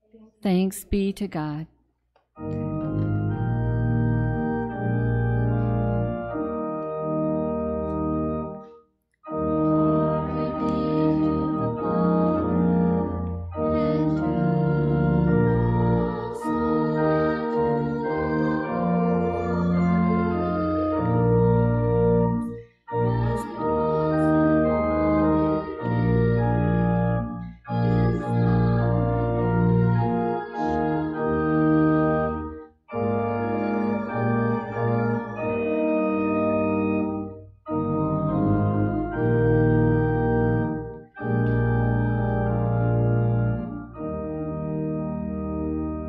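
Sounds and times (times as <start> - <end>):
organ playing hymn chords: 2.4 - 46.0.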